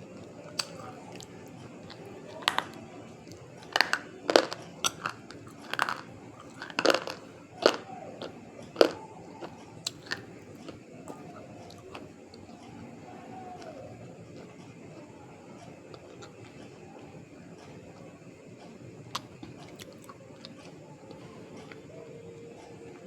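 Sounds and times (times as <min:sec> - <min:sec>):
person chewing something crunchy: 0:00.0 - 0:14.7, 0:15.8 - 0:17.1, 0:19.1 - 0:21.8.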